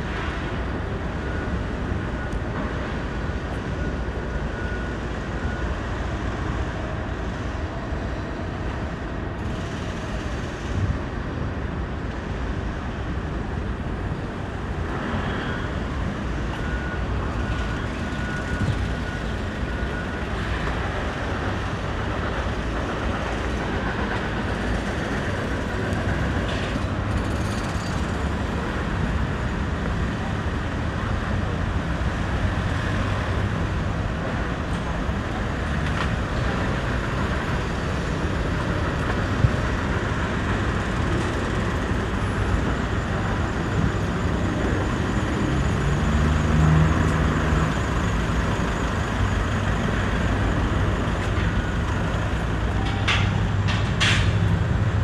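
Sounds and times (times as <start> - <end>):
road traffic engine rumble: 0.0 - 55.0.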